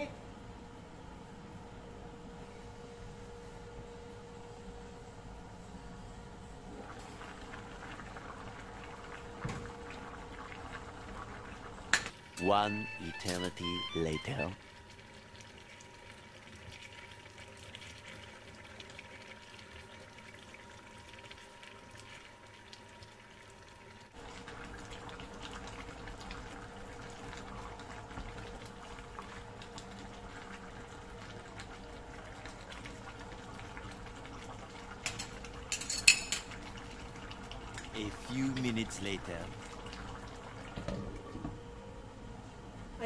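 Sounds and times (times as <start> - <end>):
faint steady hum: 0.0 - 43.0
liquid simmering in a pan: 1.7 - 12.4, 14.6 - 42.8.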